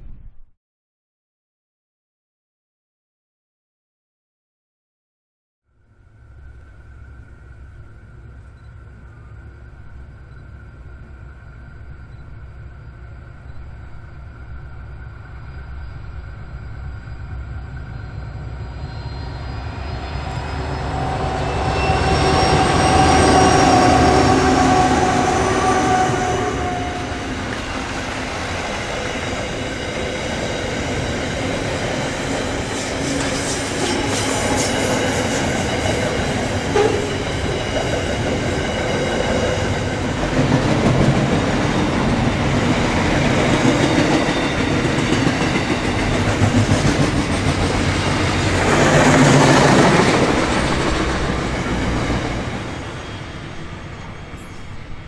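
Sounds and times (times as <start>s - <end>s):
diesel locomotives passing: 5.8s - 55.0s
train wagons rumbling and clattering: 6.3s - 55.0s.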